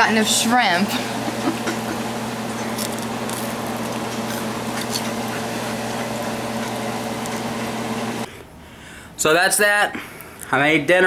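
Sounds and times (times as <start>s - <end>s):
electrical hum: 0.0s - 9.3s.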